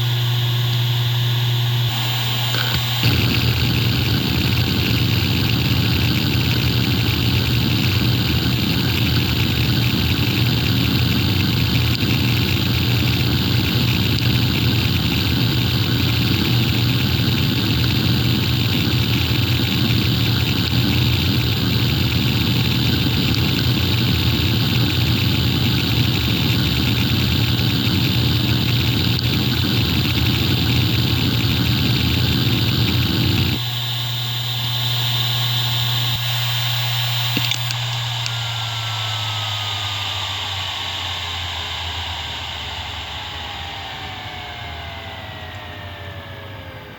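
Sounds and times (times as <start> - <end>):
hard drive running: 0.0 - 46.9.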